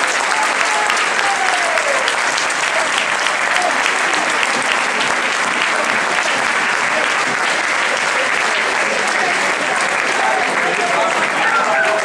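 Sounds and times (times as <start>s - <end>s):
large crowd clapping: 0.0s - 12.0s.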